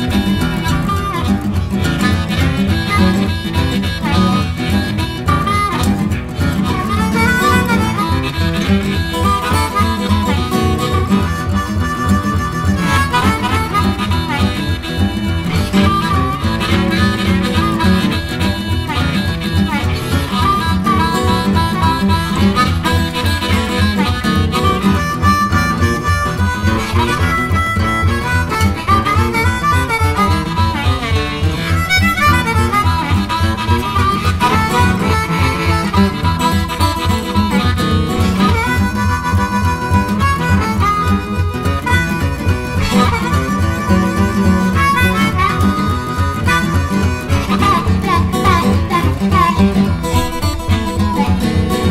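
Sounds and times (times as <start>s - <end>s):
guitar: 0.0s - 51.9s
harmonica lead line: 0.0s - 51.9s.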